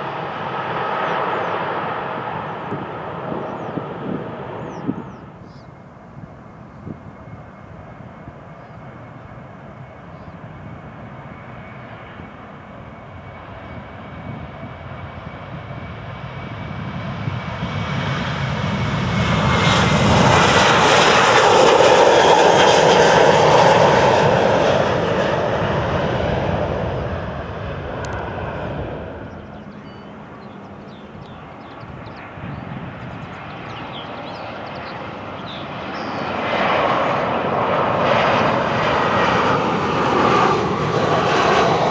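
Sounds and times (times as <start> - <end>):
jet engine roar: 0.0 - 41.9.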